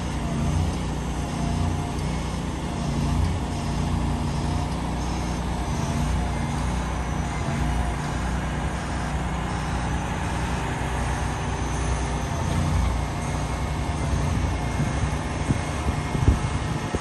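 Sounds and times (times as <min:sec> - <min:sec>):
diesel truck rumbling: 0:00.0 - 0:17.0.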